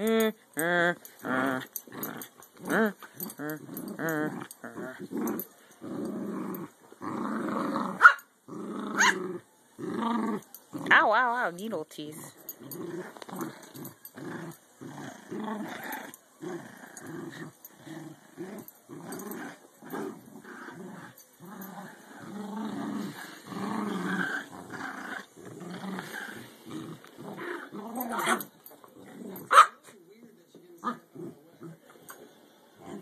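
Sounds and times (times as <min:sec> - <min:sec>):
puppy growling: 0:00.0 - 0:11.0, 0:12.4 - 0:29.7, 0:30.8 - 0:33.0.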